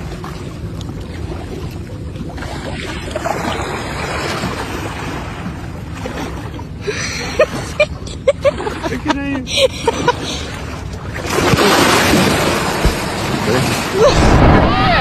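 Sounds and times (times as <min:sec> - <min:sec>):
boat motor running: 0:00.0 - 0:15.0
water noise: 0:00.0 - 0:15.0.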